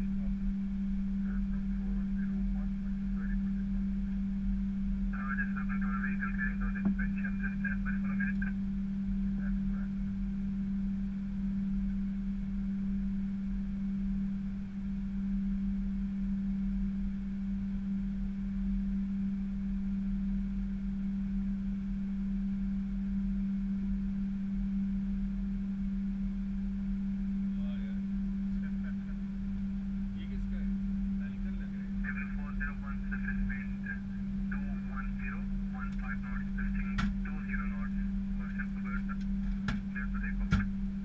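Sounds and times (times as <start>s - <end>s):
cockpit deep hum: 0.0s - 21.9s, 22.6s - 41.0s
constant rumble: 0.0s - 41.0s.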